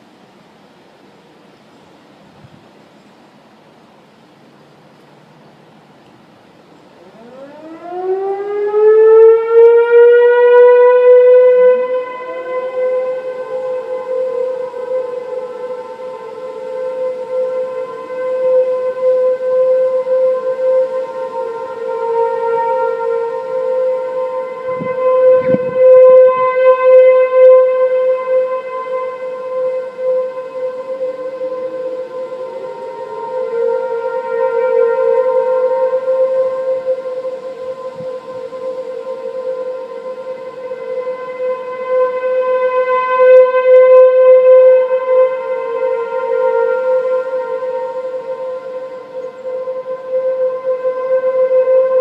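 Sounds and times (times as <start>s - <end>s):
warning siren wailing: 6.8s - 52.0s.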